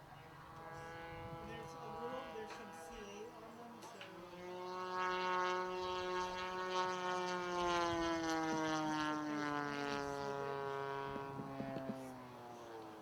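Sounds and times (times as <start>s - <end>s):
model plane engine droning: 0.0s - 13.0s.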